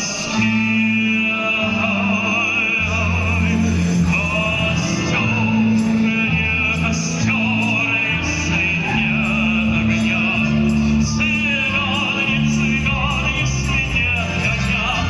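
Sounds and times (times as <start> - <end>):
accordion: 0.0 - 15.0
man singing with vibrato: 0.0 - 15.0.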